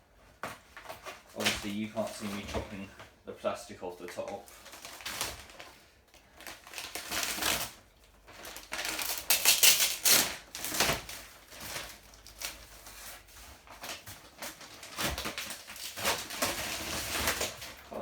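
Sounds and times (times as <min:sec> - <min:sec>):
plastic wrap crinkling: 0:00.1 - 0:18.0
knife cutting plastic wrap: 0:00.4 - 0:02.9, 0:04.0 - 0:05.8, 0:06.4 - 0:18.0.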